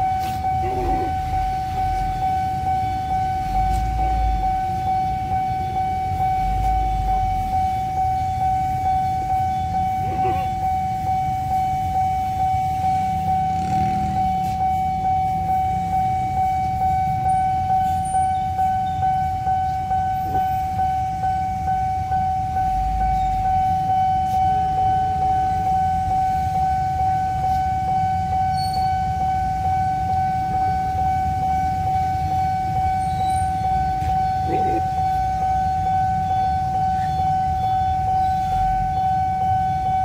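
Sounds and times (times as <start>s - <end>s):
level crossing alarm pulsing: 0.0s - 40.0s.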